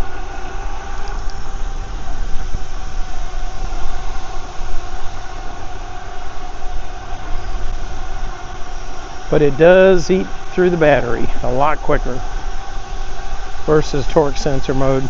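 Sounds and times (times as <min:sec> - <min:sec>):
electric motor whine: 0:00.0 - 0:15.0
wind rumble on microphone: 0:00.0 - 0:15.0.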